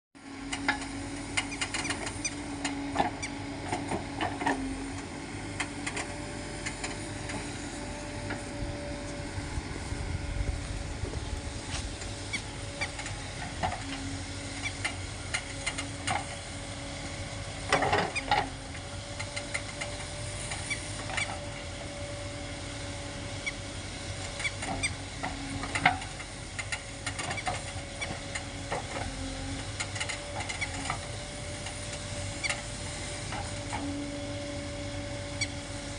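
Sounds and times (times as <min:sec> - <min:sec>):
backhoe loader engine hum: 0:00.2 - 0:35.9.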